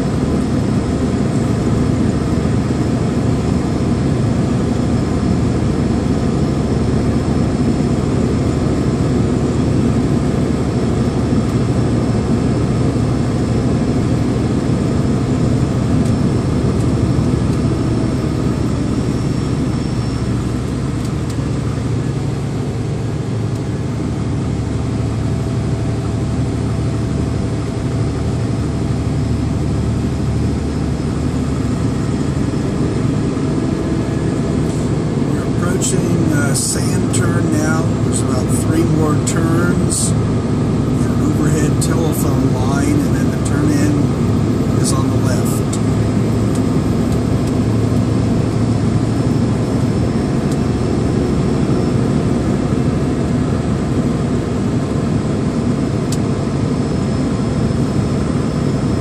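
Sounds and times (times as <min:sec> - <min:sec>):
truck engine hum: 0:00.0 - 0:59.0.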